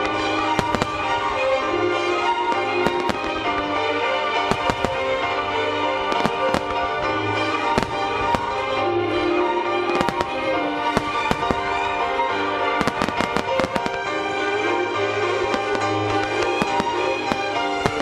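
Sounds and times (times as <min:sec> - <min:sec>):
fireworks bursting: 0:00.0 - 0:18.0
music playing: 0:00.0 - 0:18.0.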